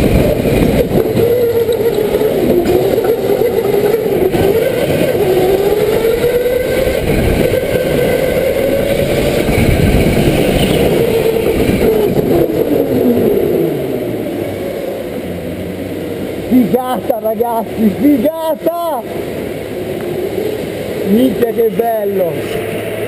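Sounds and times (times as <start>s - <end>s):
go-kart motor: 0.0s - 23.0s.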